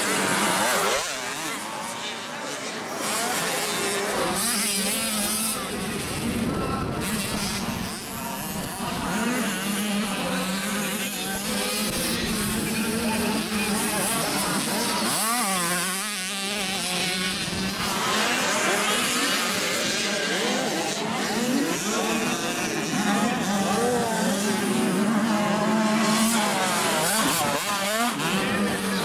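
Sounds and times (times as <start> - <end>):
motocross bikes racing: 0.0 - 29.0
nearby bike revving high: 0.0 - 29.0.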